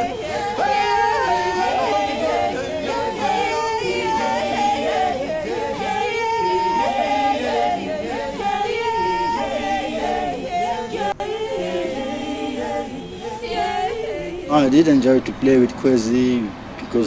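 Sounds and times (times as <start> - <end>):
a cappella group singing: 0.0 - 15.7.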